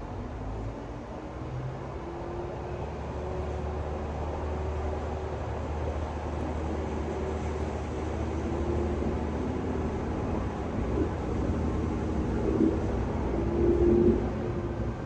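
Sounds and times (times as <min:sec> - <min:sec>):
diesel railcar engine hum: 0:00.0 - 0:15.0.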